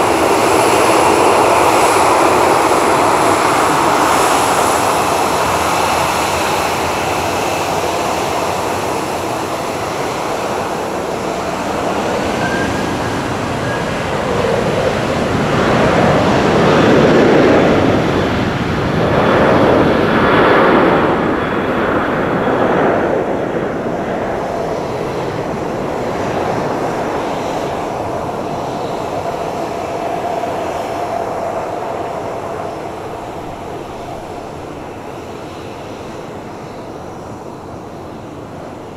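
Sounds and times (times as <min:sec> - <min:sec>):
jet engines taxiing: 0:00.0 - 0:38.9.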